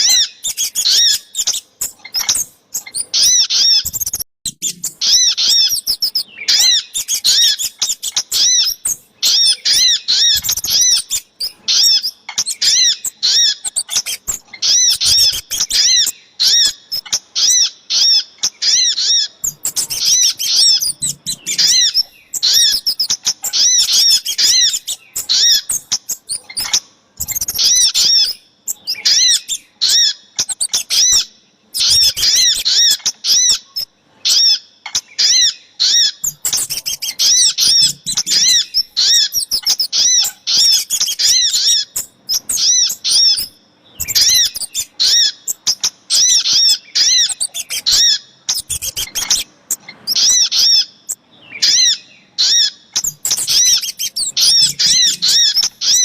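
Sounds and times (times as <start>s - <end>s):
high sharp bird chirps: 0.0s - 56.0s.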